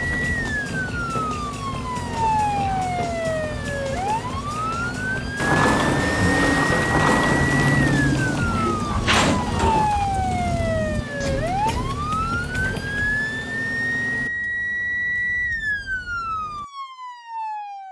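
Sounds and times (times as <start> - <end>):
police siren wailing: 0.0 - 17.9.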